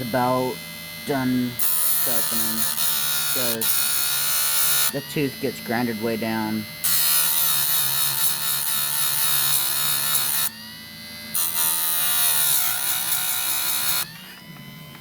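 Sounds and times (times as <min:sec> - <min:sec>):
grinder grinding chain teeth: 0:00.0 - 0:10.7, 0:11.3 - 0:15.0
grinder motor hum: 0:00.0 - 0:15.0.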